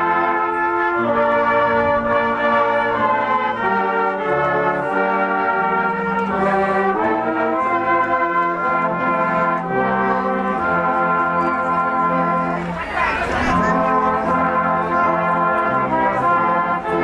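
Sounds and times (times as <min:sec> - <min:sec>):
brass band playing slow chords: 0:00.0 - 0:17.0.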